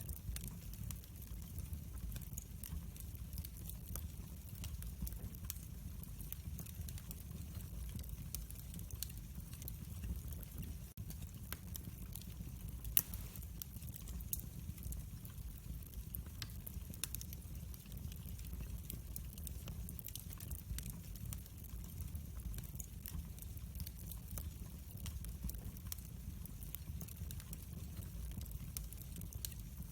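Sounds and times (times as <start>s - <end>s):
fireplace fire crackling: 0.0s - 29.9s
low rumble of flame: 0.0s - 29.9s.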